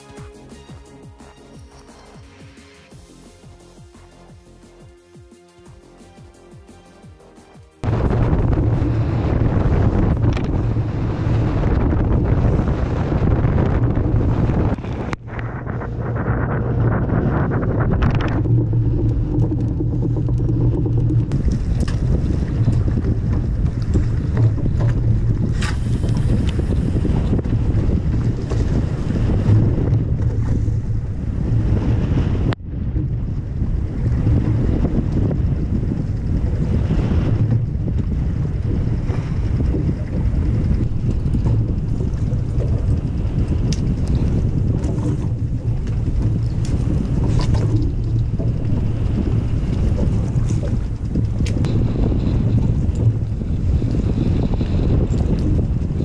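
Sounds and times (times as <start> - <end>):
boat engine drone: 0.0 - 56.0
water rushing around hull: 7.5 - 56.0
wind buffeting microphone: 7.8 - 56.0.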